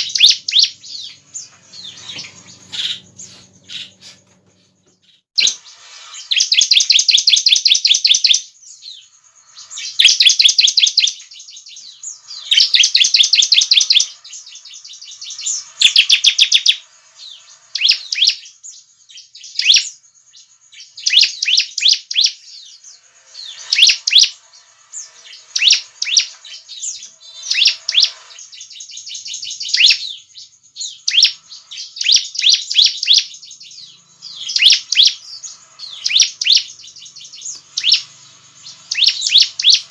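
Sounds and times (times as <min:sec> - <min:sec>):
bird singing trilled notes: 0:00.0 - 0:39.9.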